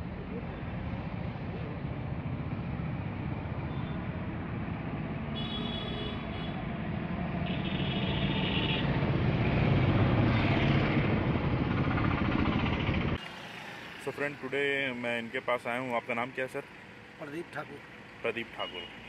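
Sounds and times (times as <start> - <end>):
rumble of road traffic: 0.0 - 19.0.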